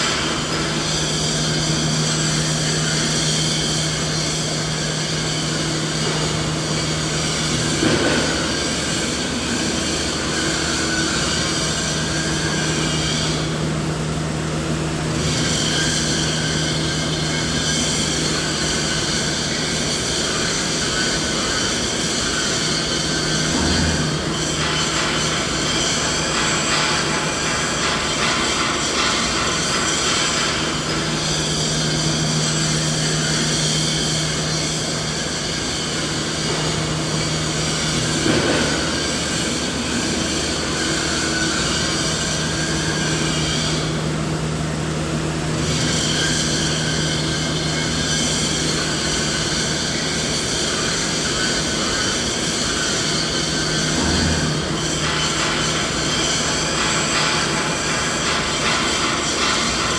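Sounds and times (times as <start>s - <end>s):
machinery hum: 0.0s - 59.9s.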